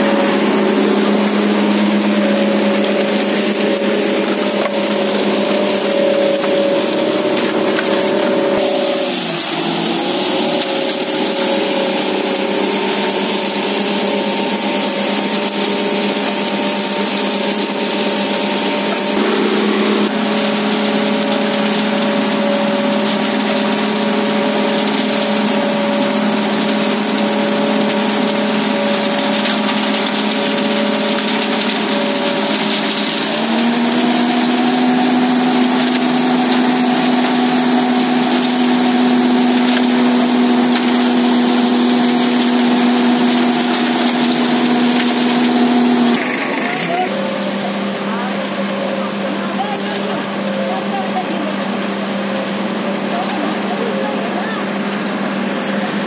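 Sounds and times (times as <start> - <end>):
concrete mixer engine running: 0.0 - 56.0.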